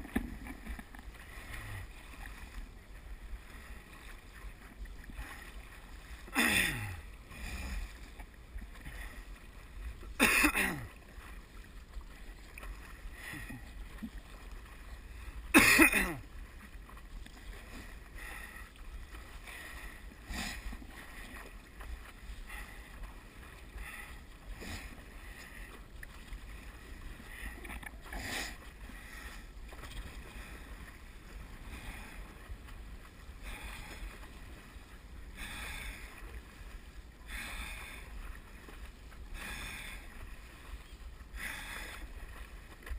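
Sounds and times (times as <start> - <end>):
paddle splashing through water: 0.0 - 42.9.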